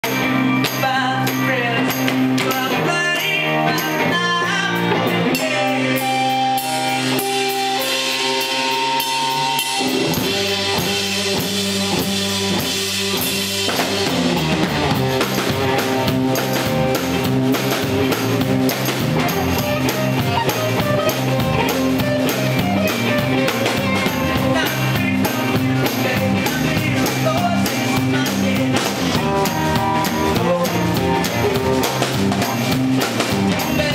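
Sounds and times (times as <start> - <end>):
bass guitar: 0.0 - 33.9
live rock band playing: 0.0 - 33.9.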